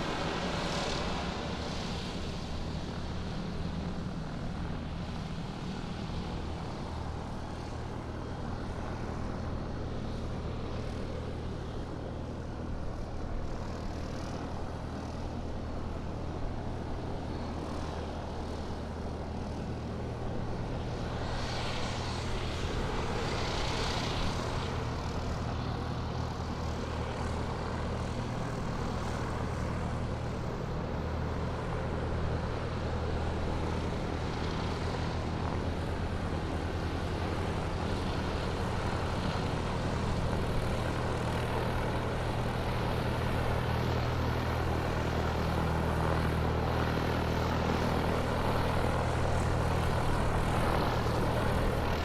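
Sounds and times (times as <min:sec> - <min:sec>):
airplane engine humming: 0:00.0 - 0:52.0.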